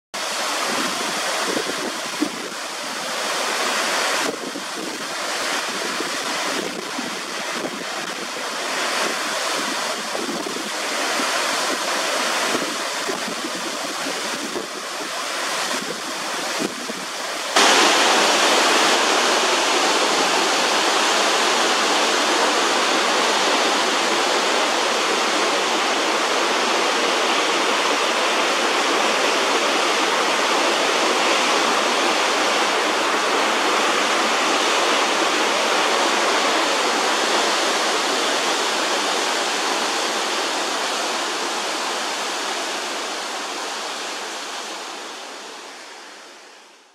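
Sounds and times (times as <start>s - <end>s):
water cascading down rock face: 0.2s - 46.9s.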